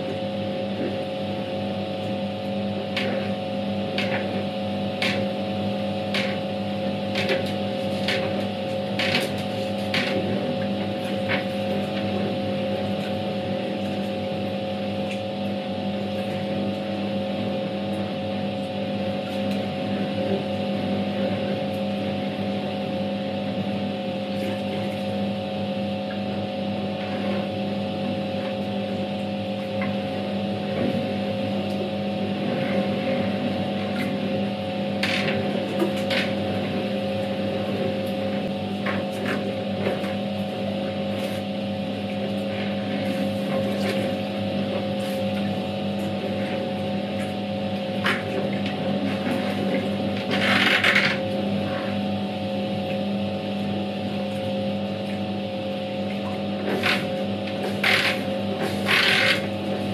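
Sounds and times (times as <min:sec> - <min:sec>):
impeller churning water: 0:00.0 - 0:59.9.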